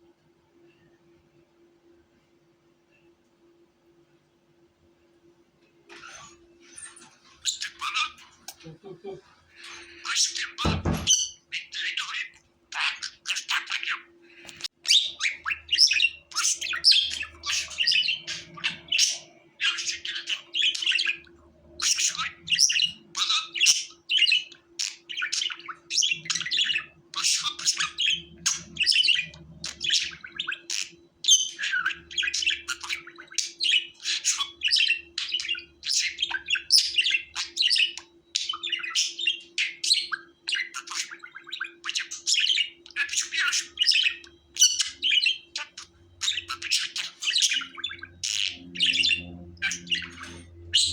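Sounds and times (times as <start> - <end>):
budgerigars chirping: 6.0 - 8.6, 9.6 - 50.9.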